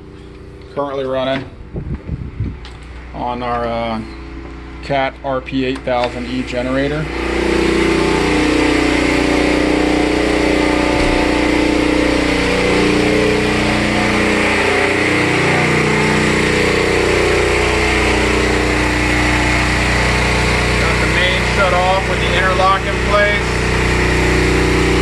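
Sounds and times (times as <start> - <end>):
generator running: 0.0 - 25.0.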